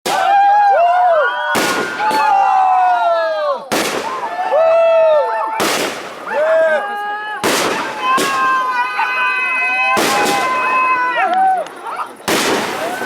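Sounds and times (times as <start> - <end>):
descending firework whistles: 0.1 - 13.0
fireworks bangs: 1.4 - 2.8, 3.7 - 13.0.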